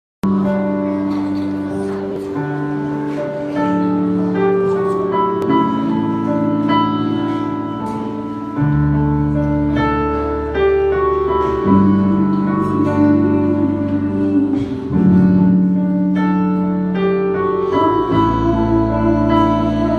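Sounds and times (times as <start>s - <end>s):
keyboard chords and melody: 0.2s - 19.9s
small band playing: 0.2s - 19.9s.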